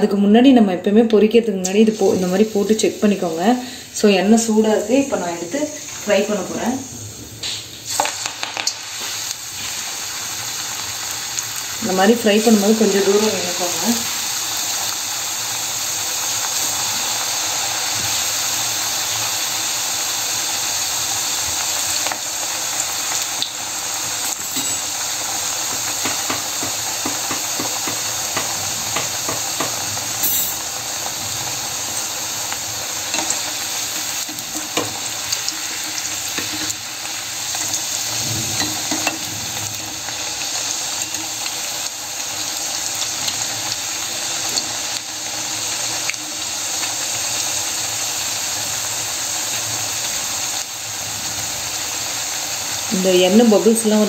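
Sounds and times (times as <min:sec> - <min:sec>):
crackers deep-frying in oil: 0:00.9 - 0:54.0.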